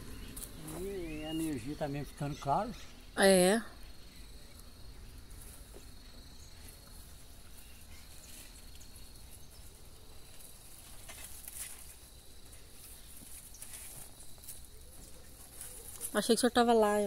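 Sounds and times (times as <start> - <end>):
leaves and twigs rustling: 0.0 - 2.4, 4.1 - 17.0
insects trilling: 0.0 - 17.0.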